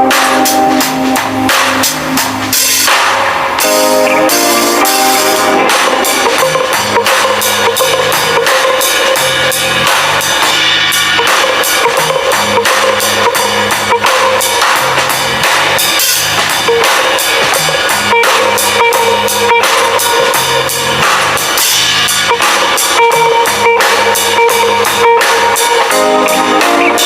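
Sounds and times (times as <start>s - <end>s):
drum and guitar music: 0.0s - 27.0s.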